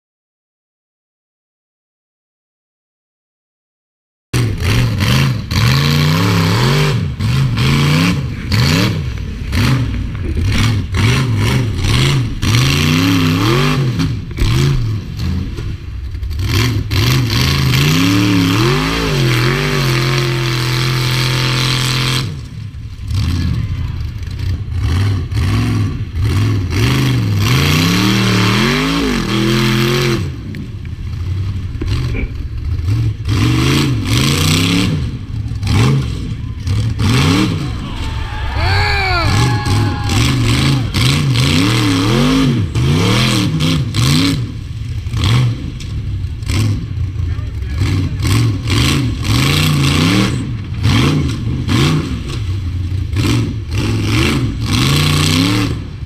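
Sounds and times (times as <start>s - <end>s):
buggy engine revving: 4.4s - 56.0s.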